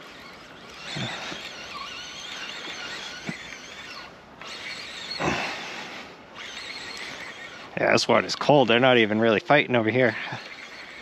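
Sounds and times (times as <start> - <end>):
fishing reel gear whine: 0.0 - 11.0.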